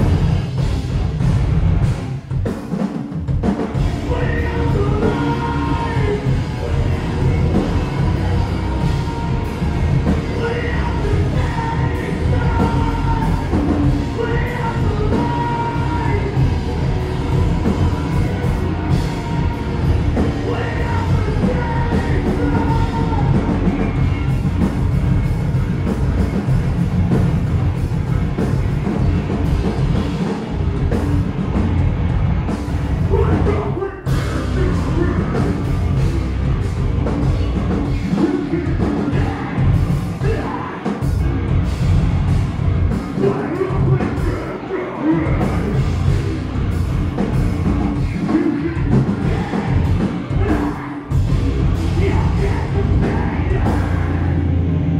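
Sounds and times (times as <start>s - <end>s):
band vocals: 0.0s - 2.4s, 3.3s - 54.9s
bass guitar: 0.0s - 2.6s, 3.2s - 54.9s
pounding drums: 0.0s - 44.5s, 45.2s - 54.4s
distorted electric guitars: 0.0s - 54.9s.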